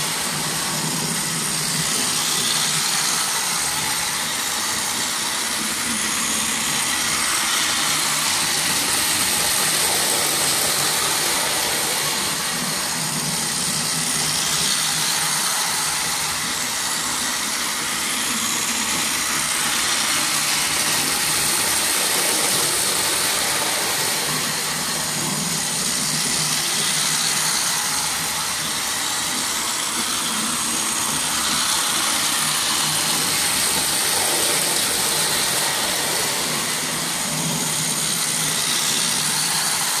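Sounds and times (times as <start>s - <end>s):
toy train motor whirring: 0.0s - 40.0s.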